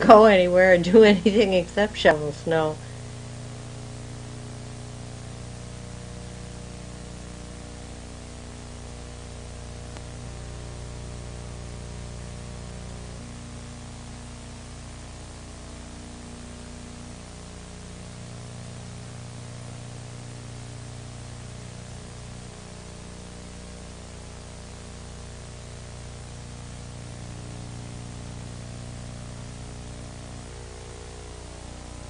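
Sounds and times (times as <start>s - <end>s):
low electrical hum: 0.0s - 32.0s
steady hiss: 0.0s - 32.0s.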